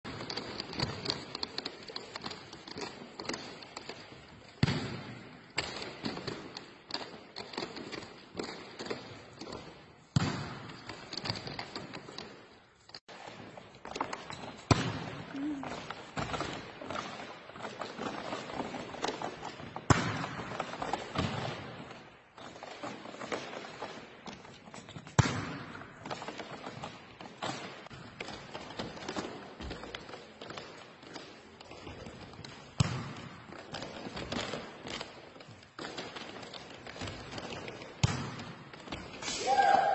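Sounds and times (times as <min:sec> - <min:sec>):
volleyball thumps in echoing hall: 0:00.1 - 0:39.9.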